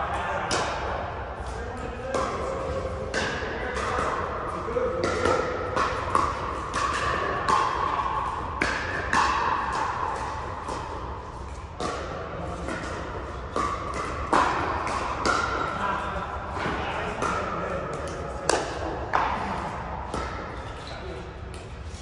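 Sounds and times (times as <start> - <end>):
paddles hitting plastic ball: 2.1 - 15.8, 16.5 - 20.8.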